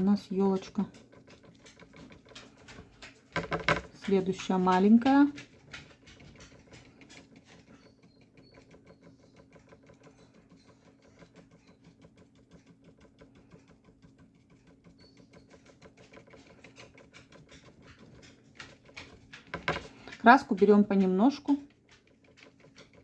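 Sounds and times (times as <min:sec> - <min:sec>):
bristle brush tapping on paper: 0:00.0 - 0:09.0, 0:09.6 - 0:23.0.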